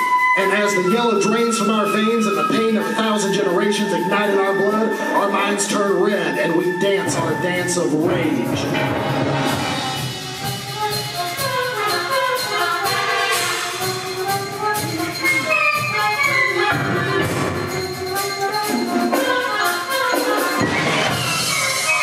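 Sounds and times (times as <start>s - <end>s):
concert band playing: 0.0s - 22.0s.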